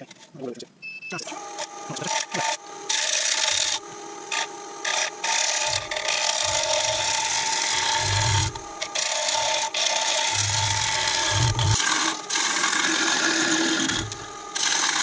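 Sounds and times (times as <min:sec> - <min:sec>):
lathe humming: 0:01.2 - 0:15.0
gouge scraping wood on lathe: 0:01.5 - 0:15.0.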